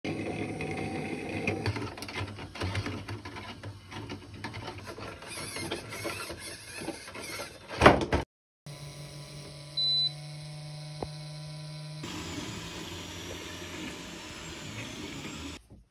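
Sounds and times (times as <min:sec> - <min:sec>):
electric motor driving plastic gears: 0:00.1 - 0:07.7, 0:08.7 - 0:15.6.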